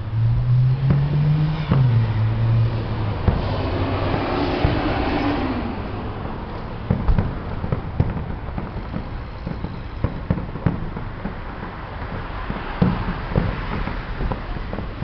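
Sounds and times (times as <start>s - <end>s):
vehicle passing: 0.0s - 15.0s
distant fireworks popping and banging: 0.6s - 15.0s.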